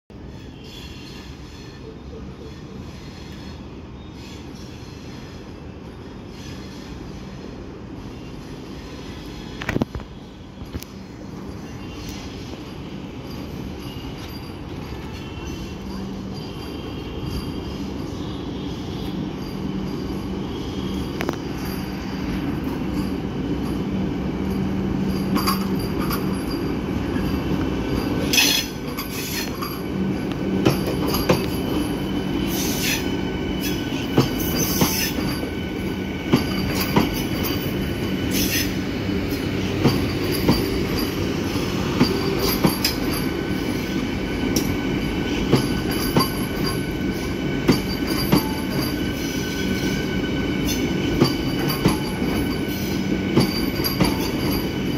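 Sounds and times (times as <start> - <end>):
train rumbling past: 0.1 - 54.9
high wheel squeals: 0.3 - 54.9.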